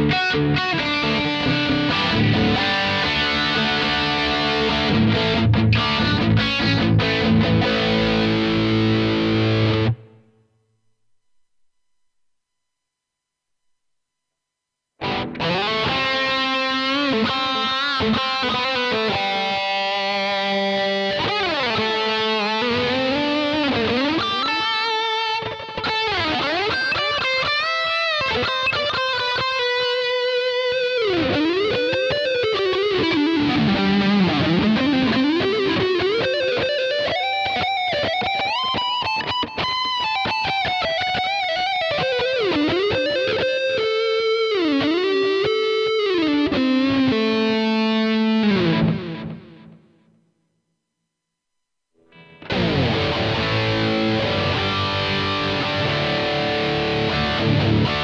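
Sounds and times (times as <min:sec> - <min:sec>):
electric guitar lead with bends: 0:00.0 - 0:10.4, 0:15.0 - 0:50.2, 0:52.0 - 0:58.0.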